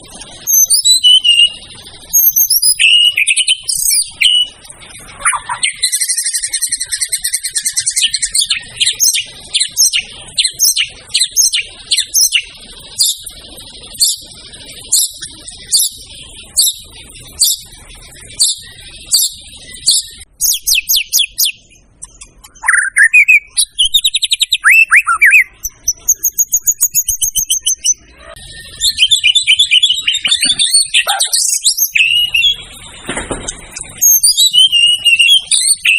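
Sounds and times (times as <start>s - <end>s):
songbird singing: 0.0s - 35.9s.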